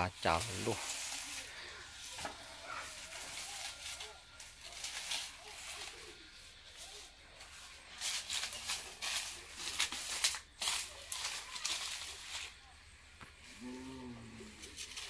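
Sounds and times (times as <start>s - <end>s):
footsteps crunching on dry stalks: 0.0s - 12.6s
dry stalks rustling: 0.0s - 15.0s.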